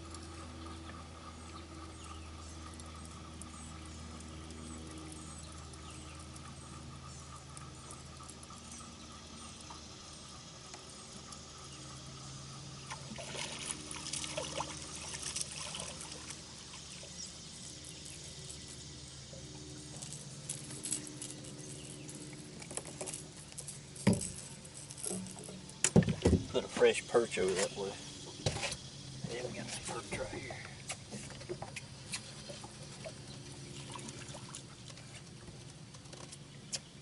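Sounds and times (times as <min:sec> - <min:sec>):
faint steady hum: 0:00.0 - 0:37.0
water trickling and splashing: 0:00.0 - 0:37.0.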